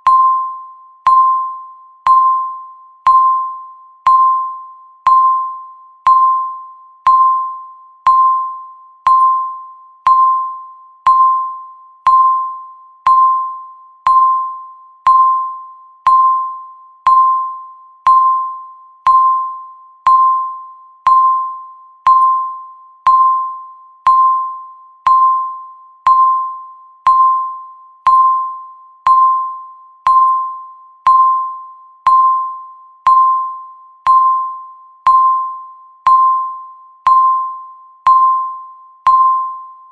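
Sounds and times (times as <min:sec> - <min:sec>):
countdown timer beep: 0:00.0 - 0:39.9.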